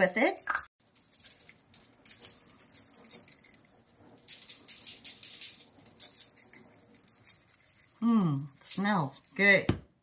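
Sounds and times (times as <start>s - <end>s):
seasoning shaker shaking: 0.0s - 9.4s
granules pattering on foil: 0.0s - 9.6s.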